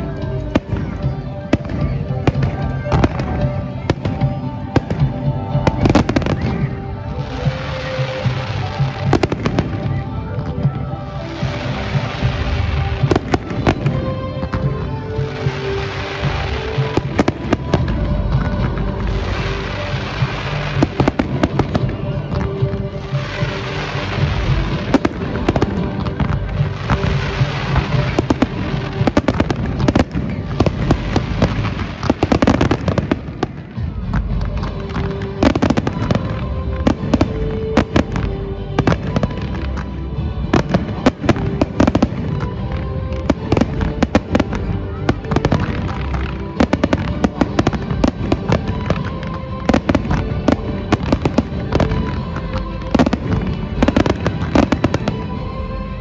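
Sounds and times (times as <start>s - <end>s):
fireworks bangs and crackling: 0.0s - 56.0s
music playing: 0.0s - 56.0s.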